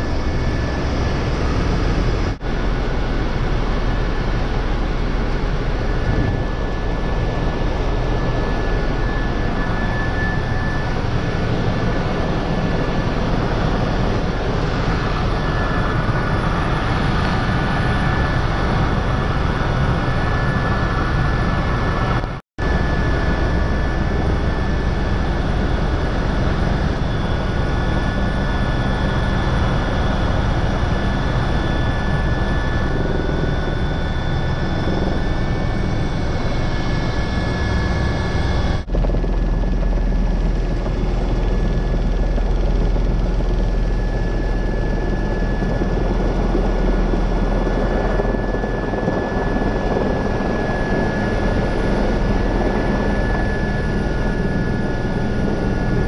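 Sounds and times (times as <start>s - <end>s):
helicopter engine and rotor drone: 0.0s - 56.0s
thin high turbine whine: 0.0s - 56.0s.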